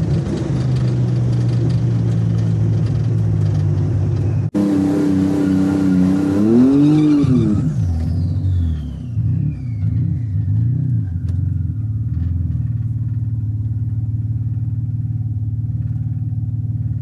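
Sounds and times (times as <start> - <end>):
car engine slowing to idle: 0.0 - 4.6, 7.7 - 17.0.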